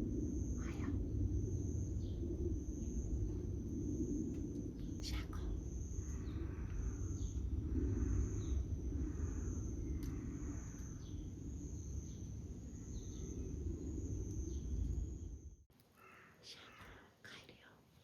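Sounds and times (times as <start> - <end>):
high-pitched insect trill: 0.0 - 15.7
low rumble: 0.0 - 15.7.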